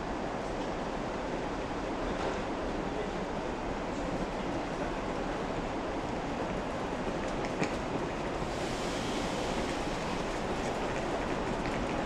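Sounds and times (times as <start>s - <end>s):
electric locomotive rumbling: 0.0s - 12.0s.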